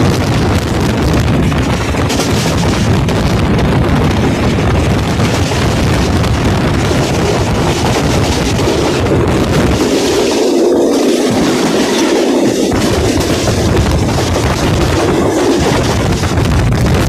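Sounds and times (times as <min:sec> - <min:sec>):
train rumbling on track: 0:00.0 - 0:17.0
wind rushing on microphone: 0:00.0 - 0:17.0.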